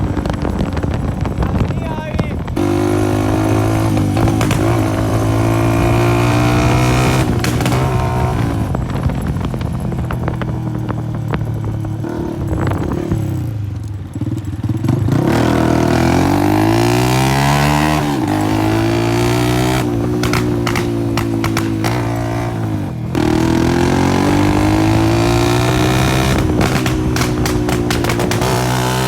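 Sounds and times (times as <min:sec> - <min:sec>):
exhaust crackling pops: 0:00.0 - 0:16.4, 0:18.0 - 0:29.0
motorcycle engine revving: 0:00.0 - 0:29.0.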